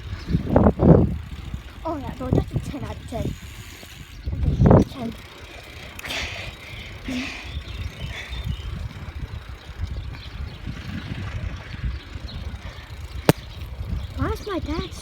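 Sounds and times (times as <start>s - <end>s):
wind rumbling on microphone: 0.0s - 5.3s, 6.1s - 15.0s
bicycle road noise: 0.0s - 15.0s.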